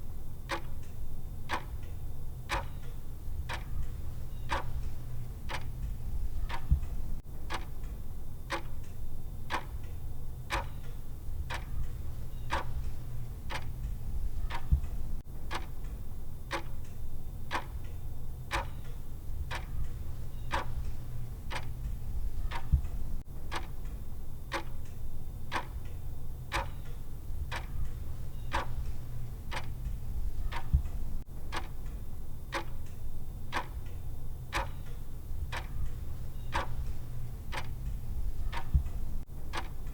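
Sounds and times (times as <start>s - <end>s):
low steady hum: 0.0s - 39.9s
clock timer ticking: 0.5s - 39.9s.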